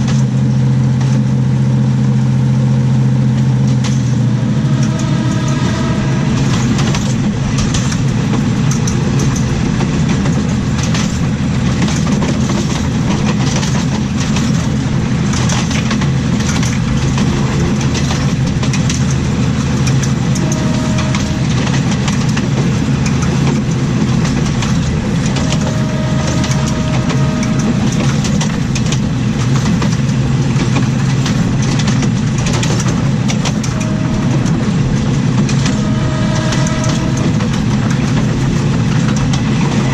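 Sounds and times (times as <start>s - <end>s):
diesel engine drone: 0.0s - 39.9s
train wheels rolling on rails: 0.0s - 39.9s
clicks and knocks over track: 3.6s - 39.9s.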